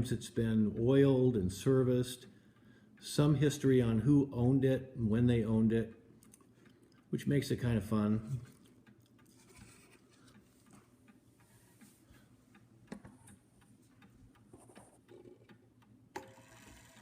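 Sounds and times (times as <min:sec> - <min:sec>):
mantel clock ticking faintly: 0:00.0 - 0:17.0.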